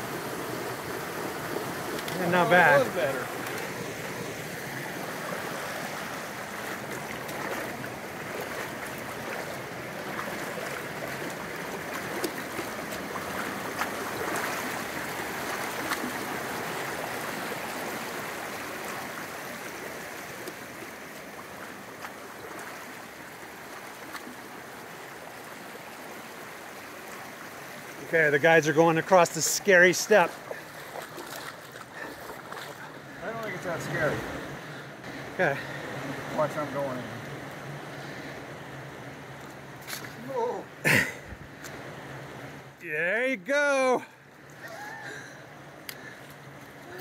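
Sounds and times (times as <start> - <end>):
creek water running over rocks: 0.0 - 47.0.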